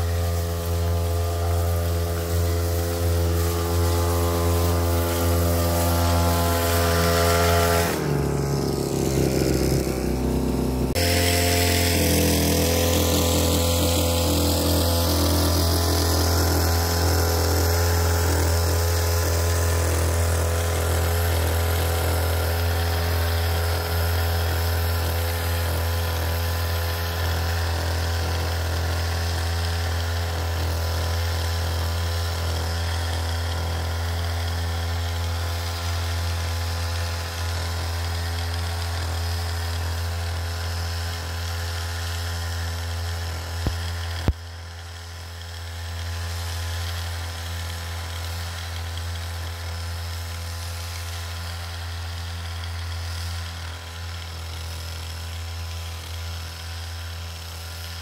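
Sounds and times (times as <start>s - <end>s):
small motor humming: 0.0s - 58.0s.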